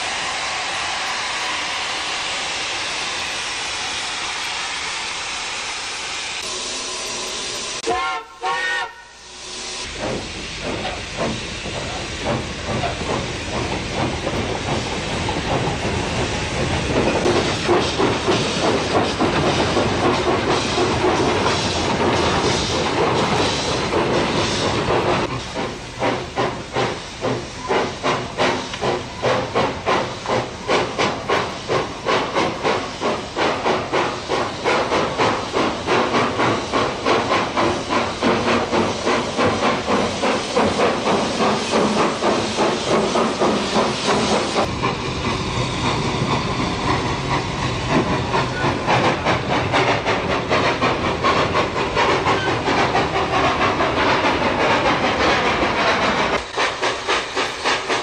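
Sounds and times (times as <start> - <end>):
steam hissing: 0.0 - 58.0
steam locomotive exhaust chuffing: 0.0 - 58.0.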